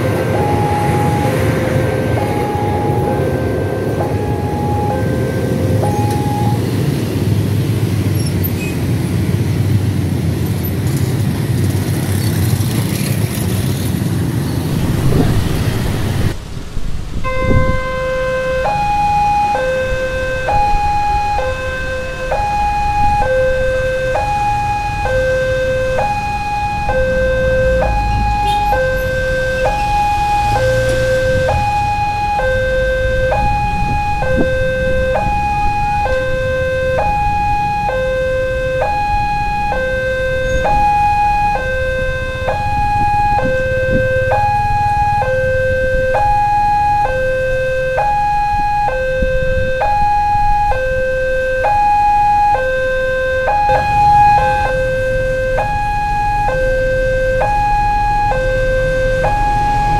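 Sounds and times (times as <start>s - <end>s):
level crossing two-tone alarm: 0.0s - 7.0s, 17.2s - 59.9s.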